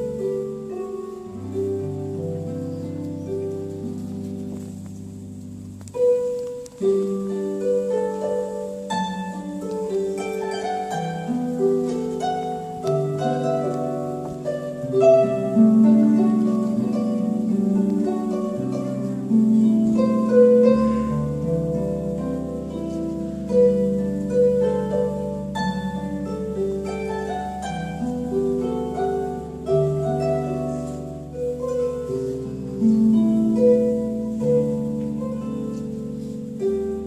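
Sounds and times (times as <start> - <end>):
harp playing melody: 0.0 - 37.0.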